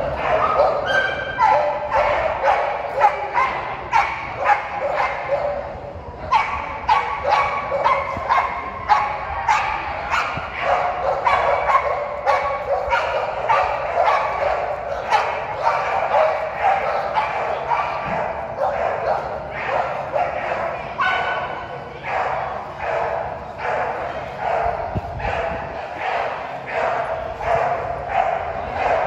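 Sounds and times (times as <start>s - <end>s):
dogs barking: 0.0s - 29.0s.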